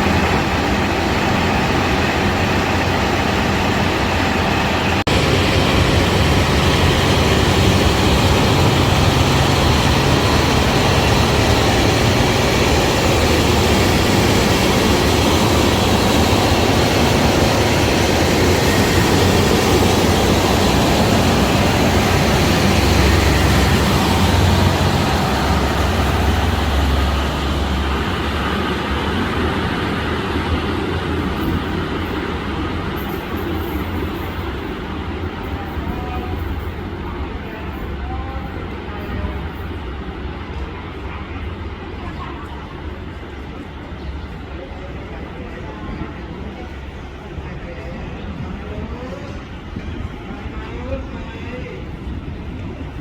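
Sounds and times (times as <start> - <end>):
diesel train engine drone: 0.0 - 53.0
rail running noise: 0.0 - 53.0.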